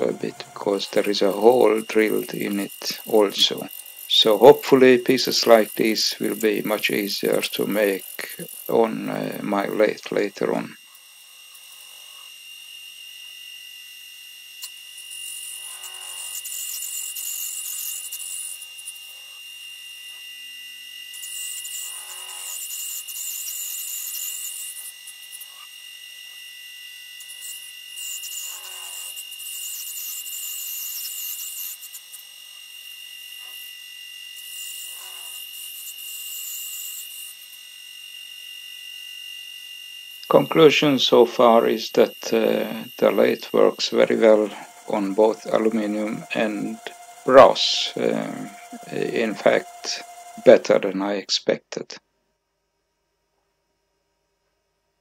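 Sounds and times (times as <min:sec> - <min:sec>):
cutting tool shaving brass: 0:00.0 - 0:51.5
lathe spindle whine: 0:00.0 - 0:51.5.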